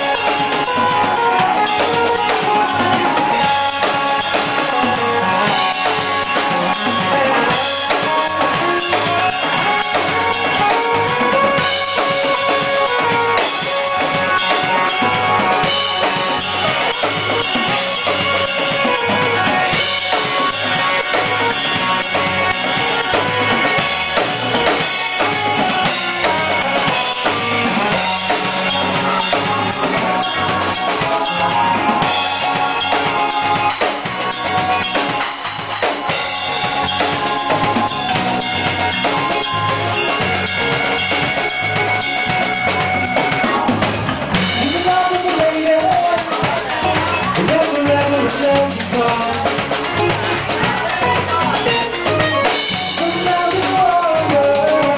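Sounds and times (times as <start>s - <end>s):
drum kit beat: 0.0s - 54.9s
live band playing loudly: 0.0s - 54.9s.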